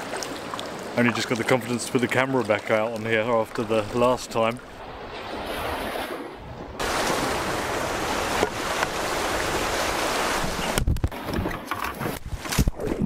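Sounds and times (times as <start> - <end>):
boat knocking and splashing: 0.0 - 4.9, 6.5 - 12.8.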